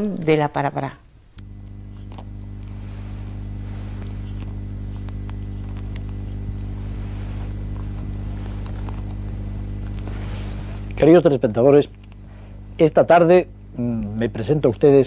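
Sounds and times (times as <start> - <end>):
faint clicks and crackle: 0.0 - 12.6
electrical hum: 0.0 - 15.0.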